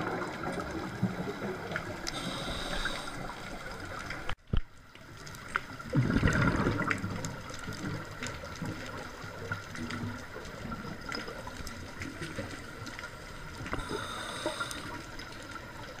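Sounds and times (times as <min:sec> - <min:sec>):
regulator bubbles gurgling underwater: 0:00.0 - 0:16.0
steady underwater hiss: 0:00.0 - 0:16.0.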